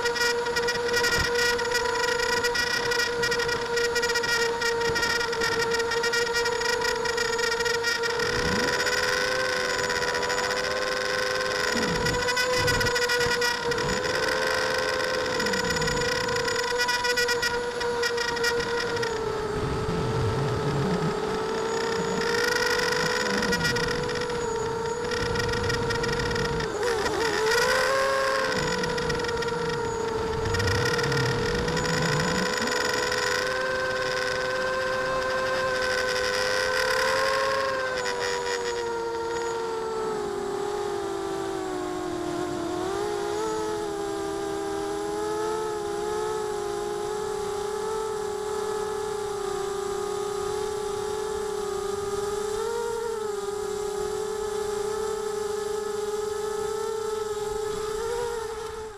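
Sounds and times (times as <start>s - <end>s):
drone motors whining: 0.0s - 58.9s.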